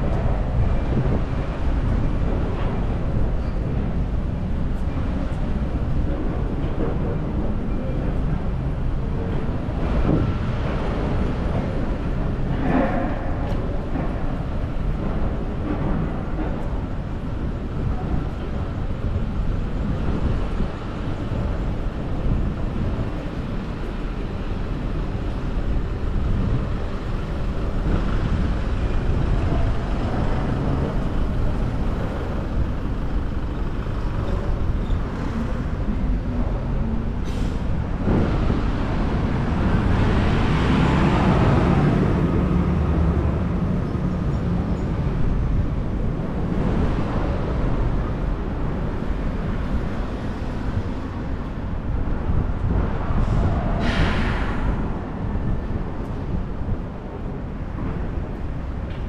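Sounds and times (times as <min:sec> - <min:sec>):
city road traffic: 0:00.0 - 0:59.0.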